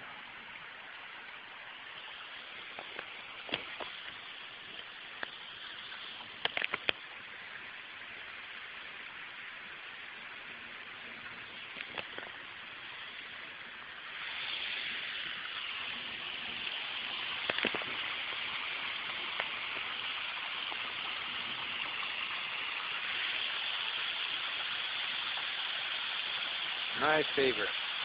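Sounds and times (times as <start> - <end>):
water pouring over rocks: 0.0 - 28.0.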